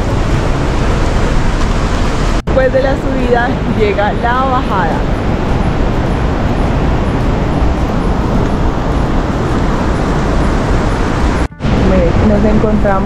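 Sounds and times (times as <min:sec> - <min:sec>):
river water roaring: 0:00.0 - 0:13.0.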